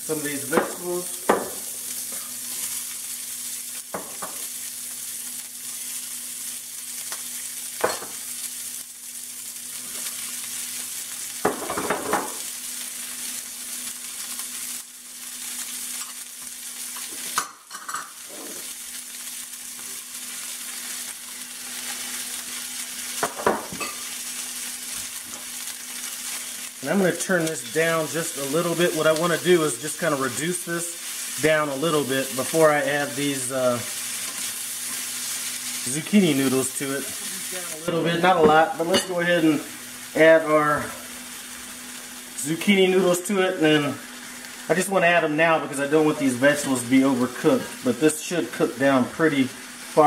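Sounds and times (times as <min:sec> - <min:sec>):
vegetables sizzling in hot oil: 0:00.0 - 0:50.0.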